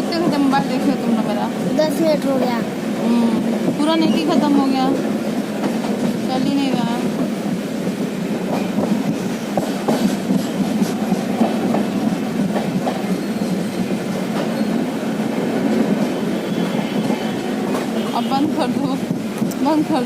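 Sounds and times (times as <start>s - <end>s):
train carriage rumbling: 0.0s - 20.0s.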